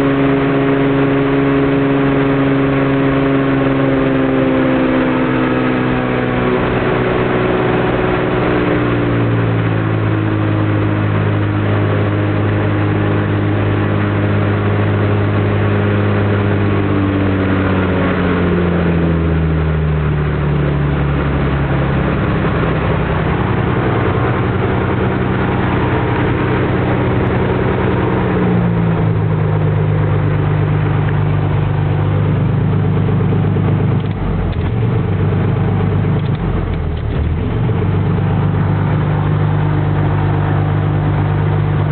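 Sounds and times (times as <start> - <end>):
piston engine and propeller running: 0.0 - 41.9.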